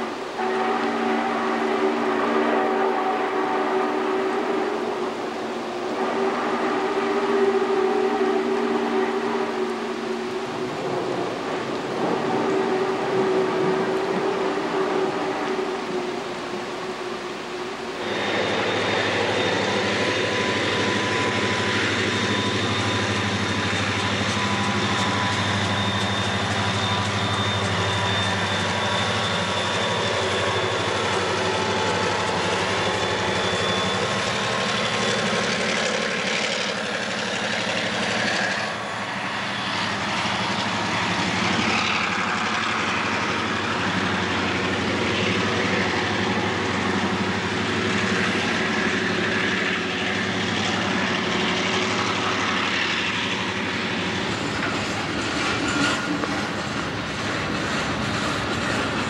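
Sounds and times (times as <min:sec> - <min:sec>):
diesel locomotive engine drone: 0:00.0 - 0:59.0
train cars rumbling on rails: 0:00.0 - 0:59.0.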